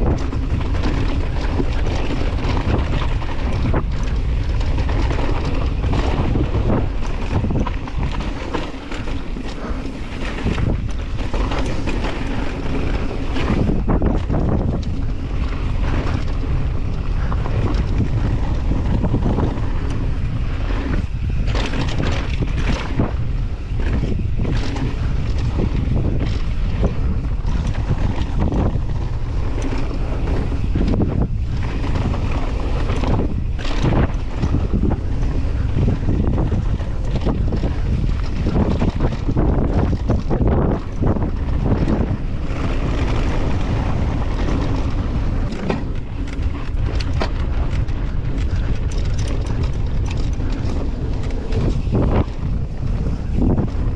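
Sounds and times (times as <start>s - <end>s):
bike knocks and rattles: 0.0s - 53.9s
wind buffeting microphone: 0.0s - 53.9s.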